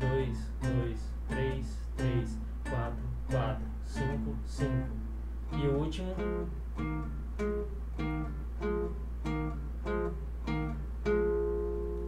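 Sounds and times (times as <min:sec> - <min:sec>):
nylon-string guitar plucks: 0:00.0 - 0:12.0.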